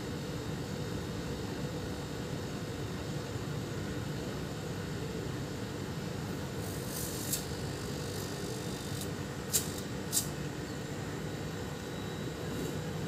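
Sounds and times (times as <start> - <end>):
refrigerator compressor humming: 0.0 - 13.0.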